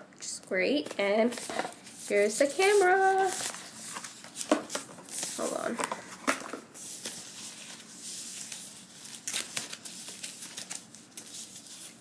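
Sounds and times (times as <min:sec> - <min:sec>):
paper wrapping crinkling: 0:01.3 - 0:12.0.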